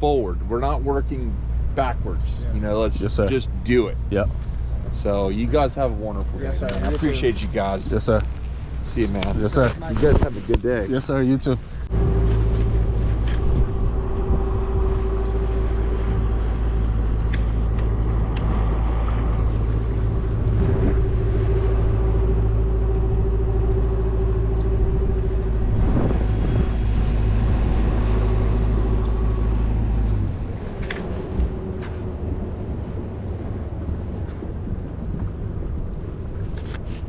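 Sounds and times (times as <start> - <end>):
outboard motor running: 0.0 - 36.7.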